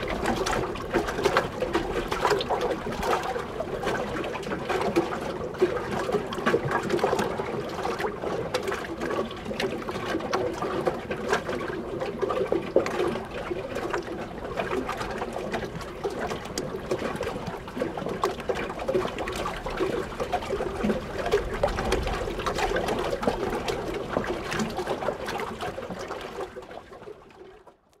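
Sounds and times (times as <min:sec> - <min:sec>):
water lapping against wooden pier: 0:00.0 - 0:28.0.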